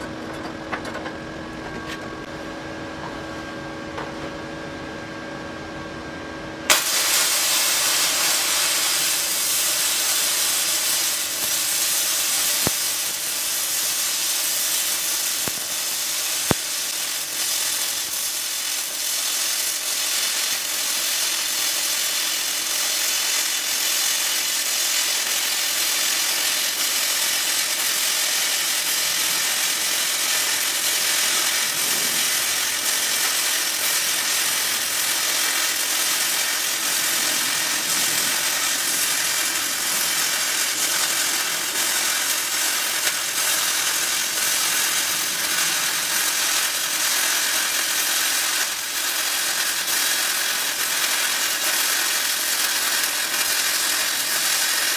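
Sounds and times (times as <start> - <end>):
welding arc crackling: 6.6 - 54.9.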